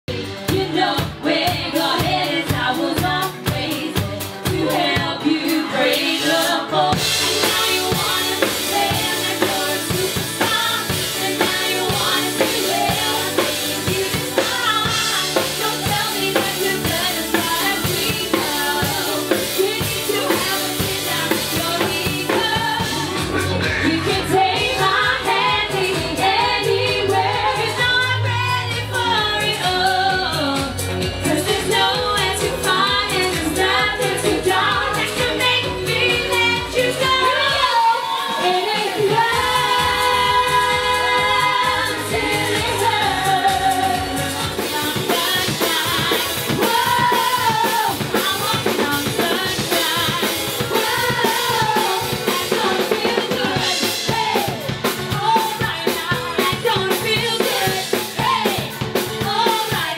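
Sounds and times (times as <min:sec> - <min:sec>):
drum kit: 0:00.0 - 0:59.9
women singing into microphones: 0:00.1 - 0:59.9.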